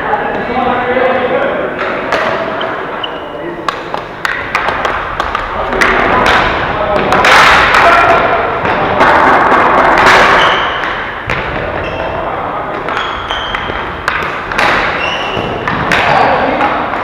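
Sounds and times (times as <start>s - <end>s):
general game noise: 0.0s - 17.0s
ball and players hitting boards: 1.7s - 3.0s, 3.6s - 17.0s
sticks hitting ball: 1.7s - 3.0s, 3.6s - 17.0s.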